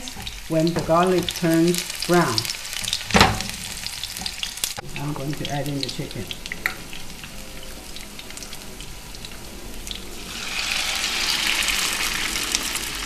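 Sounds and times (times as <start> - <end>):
loud sizzle of chicken in oil: 0.0 - 13.0
oil frying with light crackling: 0.0 - 13.0.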